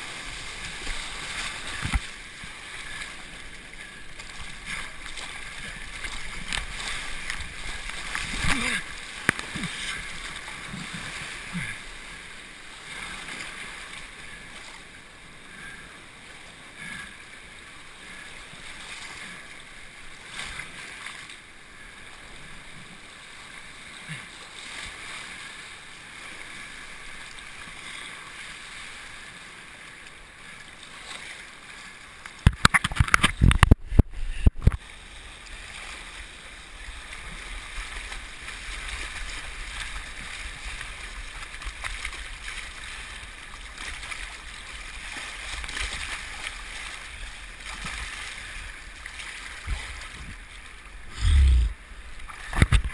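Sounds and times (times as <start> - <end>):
muffled river rapids rushing: 0.0 - 52.9.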